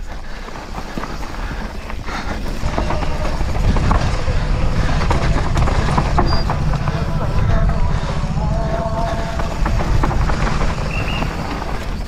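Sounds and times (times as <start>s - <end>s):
bike clattering: 0.0s - 12.0s
wind rush on microphone: 0.0s - 12.0s
tyres crunching on rock: 0.2s - 12.0s.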